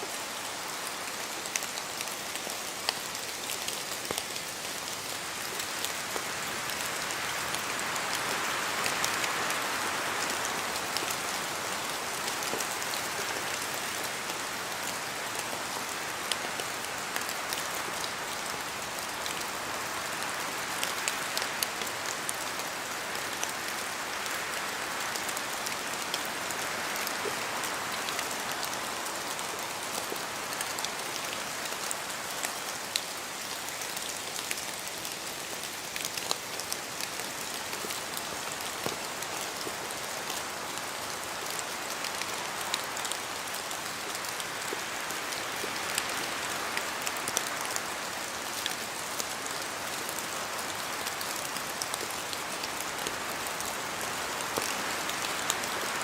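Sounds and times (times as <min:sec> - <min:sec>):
steady rain hiss: 0:00.0 - 0:56.0
wind through trees: 0:00.0 - 0:56.0.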